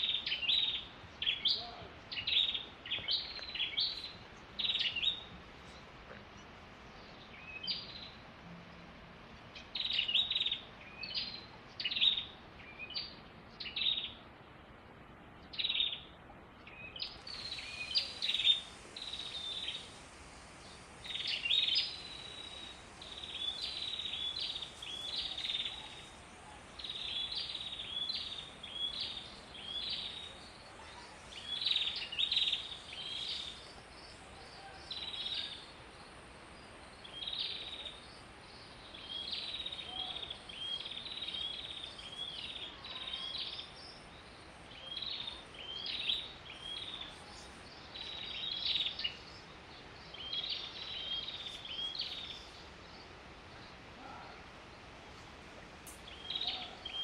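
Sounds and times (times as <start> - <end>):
faint background hiss: 0.0 - 57.0
songbird chirping: 0.0 - 57.0.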